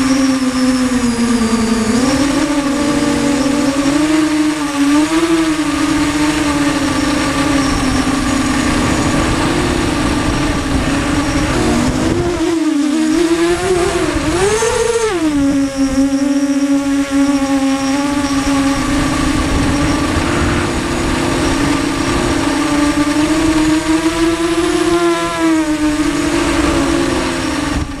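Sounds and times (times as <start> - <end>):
quadcopter motors whining: 0.0 - 28.0
rushing noise: 0.0 - 28.0.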